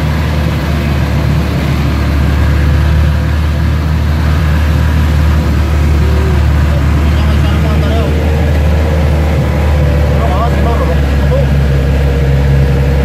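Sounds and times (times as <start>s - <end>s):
road noise: 0.0s - 13.0s
van engine drone: 0.0s - 13.0s.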